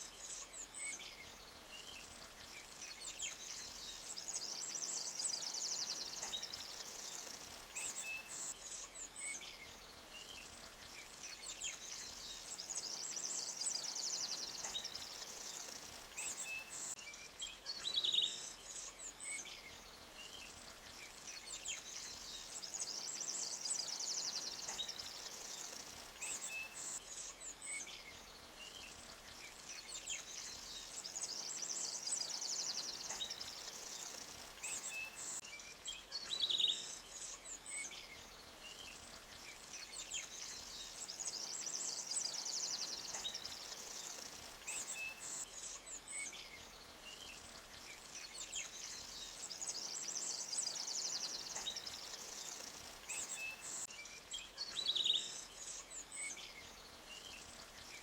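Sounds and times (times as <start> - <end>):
creek hiss: 0.0 - 58.0
small birds chirping: 0.0 - 58.0.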